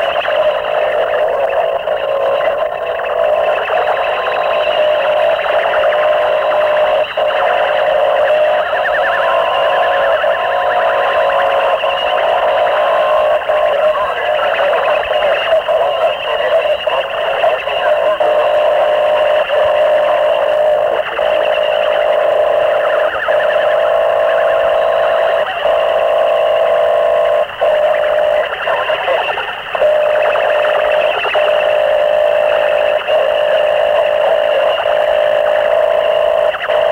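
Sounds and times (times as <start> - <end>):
distorted harsh noise music: 0.0 - 36.9.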